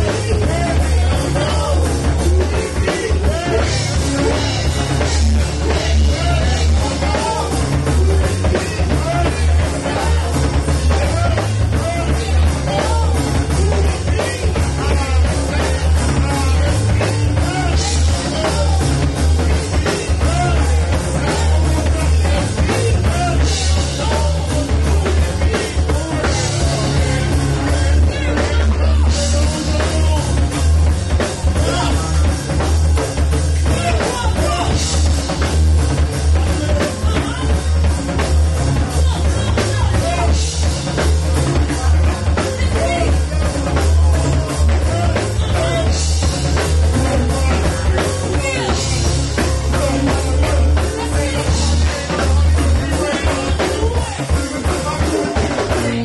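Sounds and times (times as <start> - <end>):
live band playing: 0.0 - 56.0
vocalists singing: 0.0 - 56.0.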